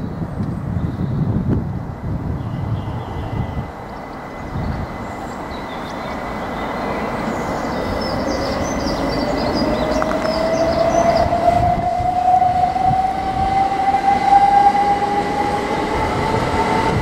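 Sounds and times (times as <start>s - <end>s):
electric train rumble: 0.2s - 17.0s
wheels squealing: 2.6s - 17.0s.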